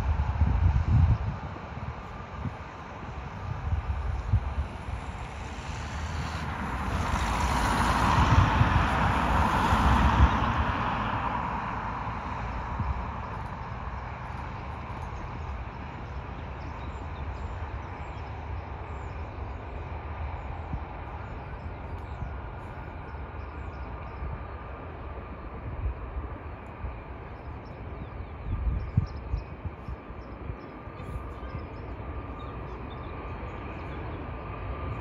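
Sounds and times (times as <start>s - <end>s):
distant jet aircraft taxiing: 0.0s - 35.0s.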